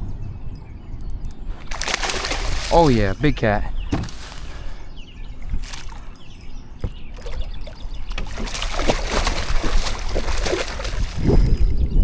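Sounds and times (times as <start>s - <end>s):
steady low rumble: 0.0s - 12.0s
water sloshing around boat: 1.4s - 12.0s.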